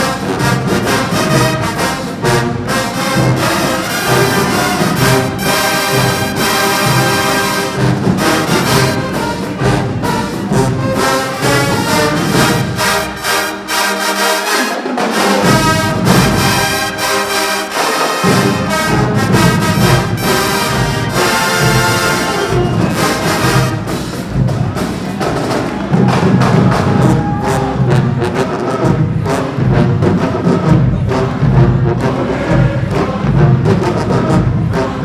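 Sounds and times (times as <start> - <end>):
marching band playing: 0.0 - 35.0
pounding drums: 0.0 - 35.0.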